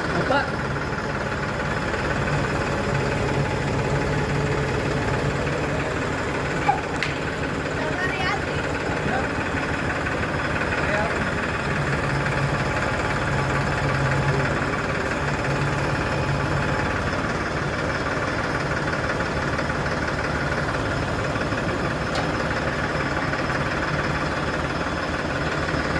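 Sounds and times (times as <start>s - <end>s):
tractor diesel engine idling: 0.0s - 25.9s.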